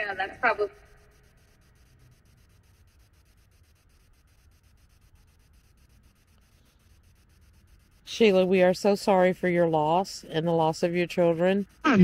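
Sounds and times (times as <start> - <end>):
fast faint ticking: 0.0 - 12.0.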